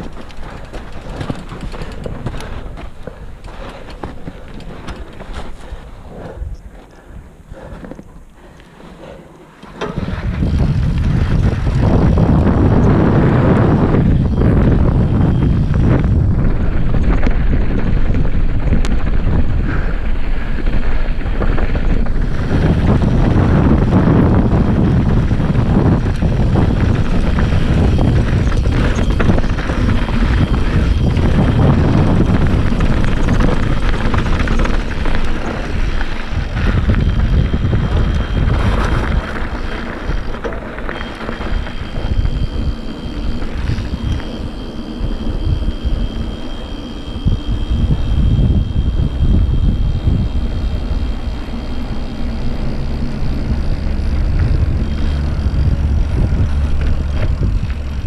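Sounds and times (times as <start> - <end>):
bike tyres rolling over dirt: 0.0 - 58.0
wind buffeting microphone: 0.0 - 58.0
thin high whine: 4.3 - 58.0.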